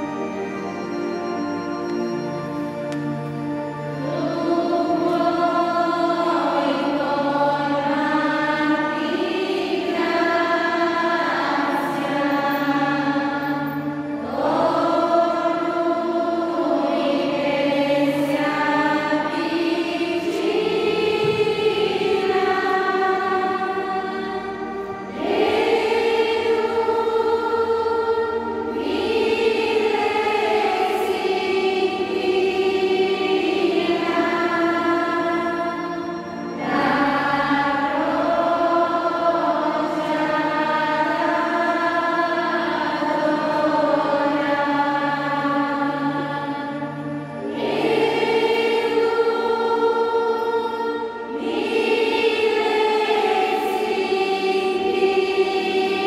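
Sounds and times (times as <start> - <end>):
voices singing a slow hymn: 0.0 - 56.0.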